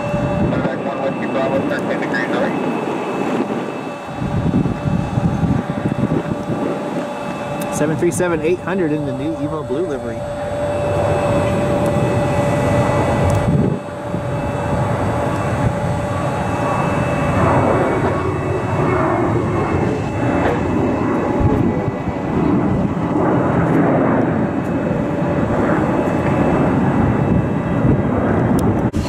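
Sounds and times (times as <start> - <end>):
steady tone: 0.0 - 27.6
jet engine noise: 0.0 - 29.0.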